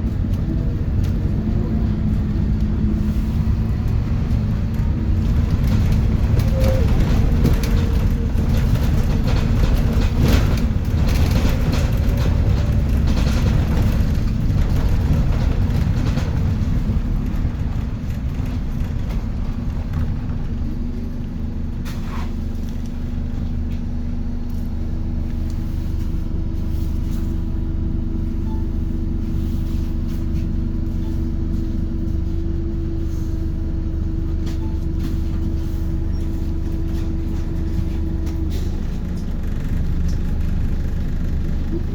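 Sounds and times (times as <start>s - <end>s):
bus diesel engine: 0.0s - 41.9s
road rumble: 0.0s - 41.9s.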